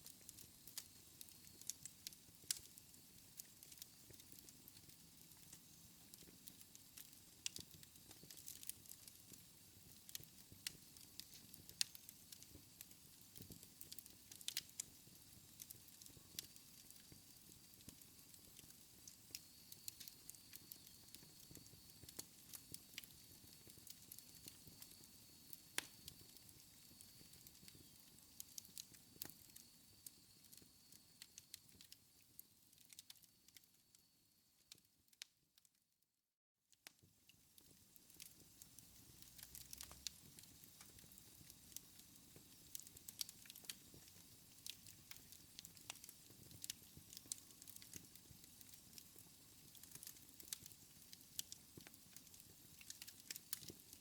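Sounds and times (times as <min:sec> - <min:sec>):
wood fire crackling: 0:00.0 - 0:33.7, 0:37.6 - 0:54.0.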